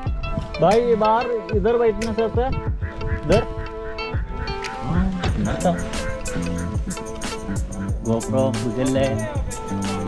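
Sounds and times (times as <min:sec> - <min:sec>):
sustained chords: 0:00.0 - 0:08.8
pitch-bending melody: 0:00.0 - 0:09.8
low drum beat: 0:00.0 - 0:10.0.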